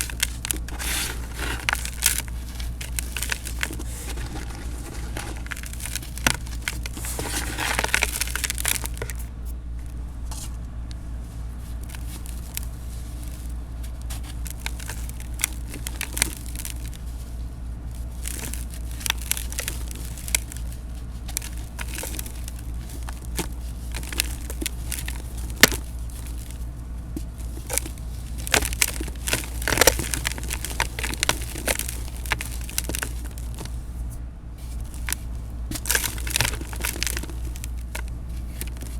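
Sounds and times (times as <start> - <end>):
cement crunching and crackling: 0.0 - 38.9
steady low hum: 0.0 - 38.9.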